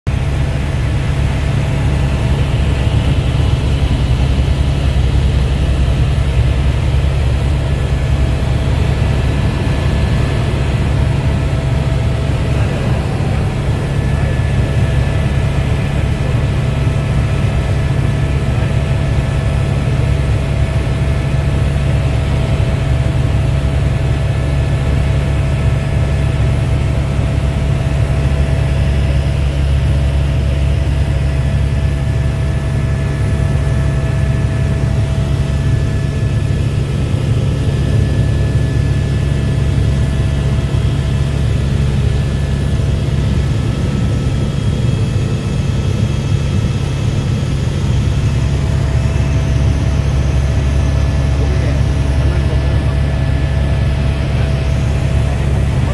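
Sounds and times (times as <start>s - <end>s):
faint turbine whine: 0.1s - 55.9s
helicopter rotor drone in cabin: 0.1s - 55.9s.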